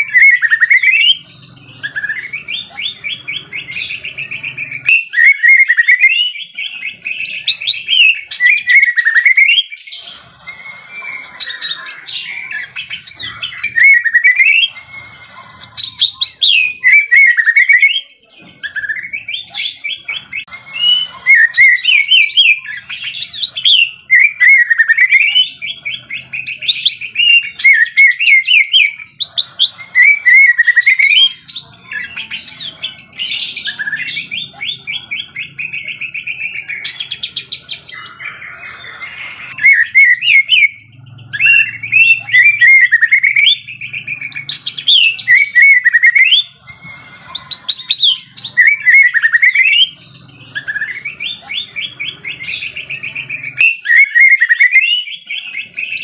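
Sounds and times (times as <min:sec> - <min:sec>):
bird singing whistled trills: 0:00.0 - 0:56.0.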